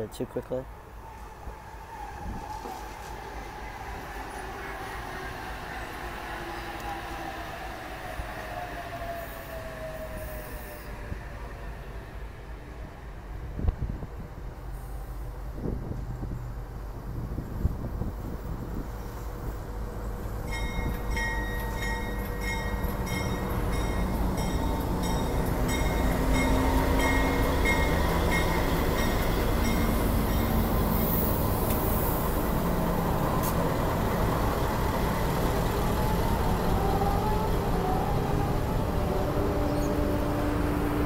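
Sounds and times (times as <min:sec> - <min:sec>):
diesel locomotive engines: 0:00.0 - 0:41.0.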